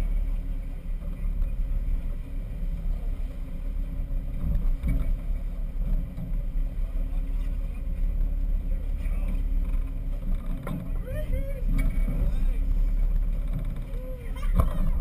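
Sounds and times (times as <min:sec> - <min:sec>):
boat engines rumbling: 0:00.0 - 0:15.0
water rushing past hull: 0:00.0 - 0:15.0.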